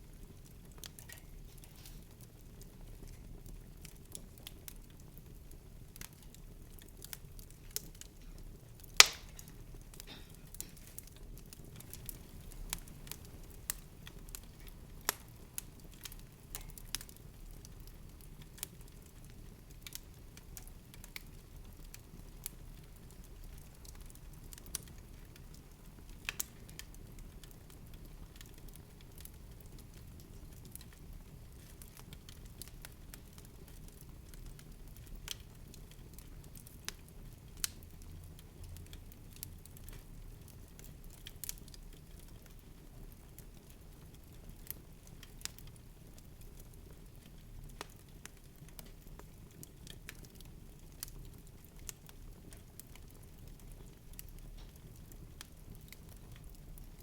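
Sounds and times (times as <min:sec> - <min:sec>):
crackling clicks and pops: 0:00.4 - 0:57.0.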